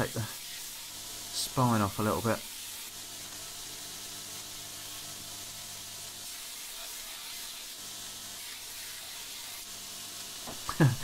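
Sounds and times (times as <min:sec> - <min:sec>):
steel hissing on grinder belt: 0:00.0 - 0:11.0.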